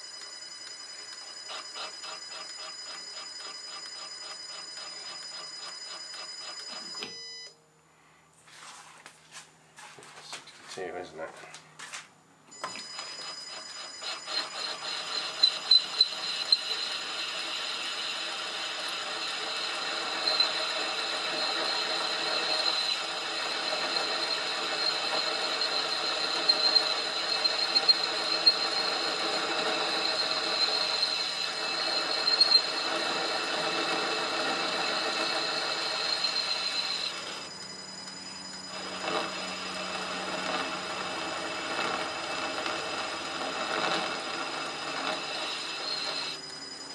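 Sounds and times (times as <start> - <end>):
high-pitched cutting squeal: 0.0 - 7.4, 12.6 - 46.9
metal lathe running: 1.0 - 6.8, 13.1 - 46.5.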